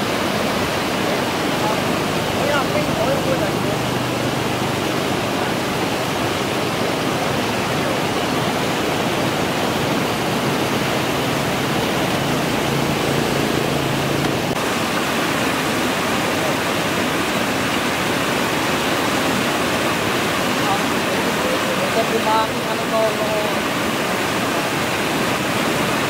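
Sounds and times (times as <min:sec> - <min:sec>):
water rushing over a dam: 0:00.0 - 0:26.0.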